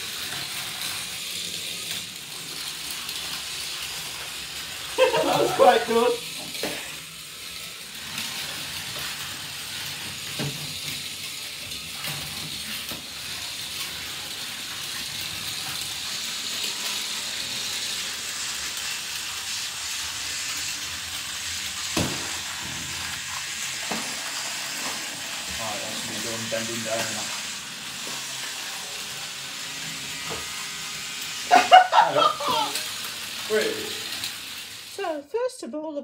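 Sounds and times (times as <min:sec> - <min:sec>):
toy snake motors whirring: 0:00.0 - 0:35.5.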